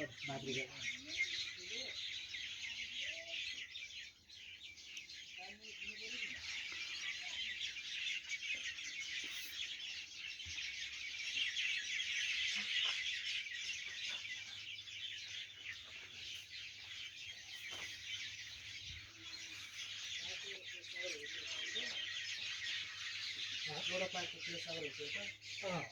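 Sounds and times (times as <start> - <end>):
high-pitched chirping chorus: 0.0 - 25.9.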